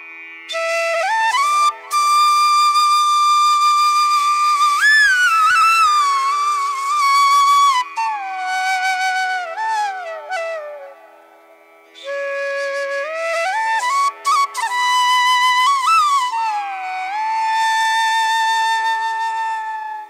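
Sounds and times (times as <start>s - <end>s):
flute slow melody: 0.5s - 11.1s, 12.0s - 20.0s.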